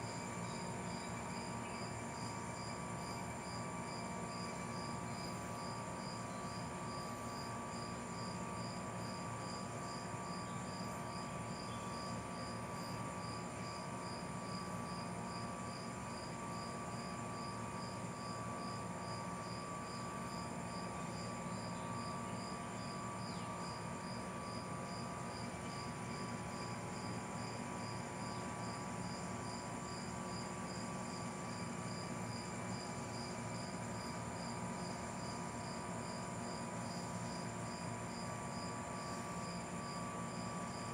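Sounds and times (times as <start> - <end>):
insect chirping: 0.0 - 40.9
steady hum and hiss: 0.0 - 40.9.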